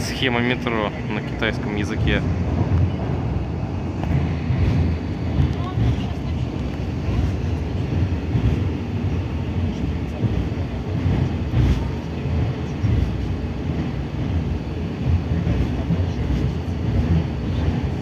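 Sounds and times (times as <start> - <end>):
metro train wheels rumbling on track: 0.0 - 18.0.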